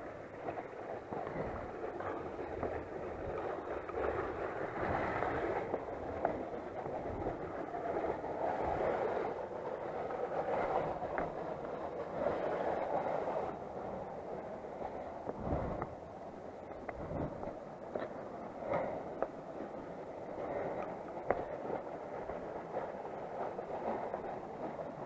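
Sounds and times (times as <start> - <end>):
wind noise: 0.0 - 25.0.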